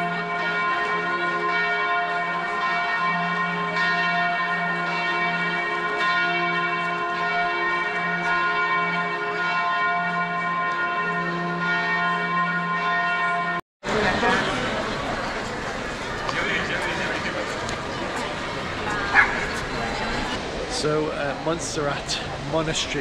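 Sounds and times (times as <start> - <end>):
church bells ringing: 0.0 - 23.0.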